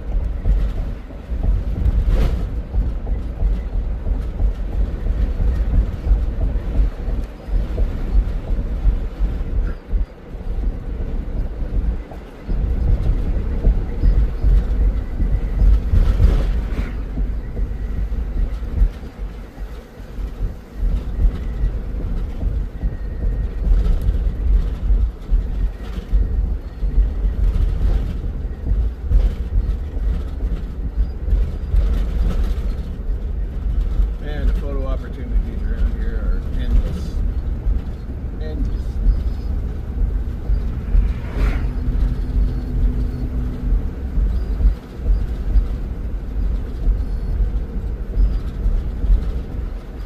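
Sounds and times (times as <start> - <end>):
vehicle road and wind noise: 0.0 - 50.0.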